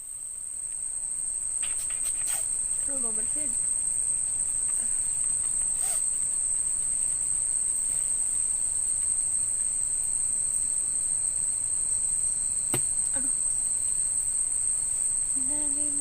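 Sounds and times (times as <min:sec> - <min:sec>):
night insects droning: 0:00.0 - 0:16.0.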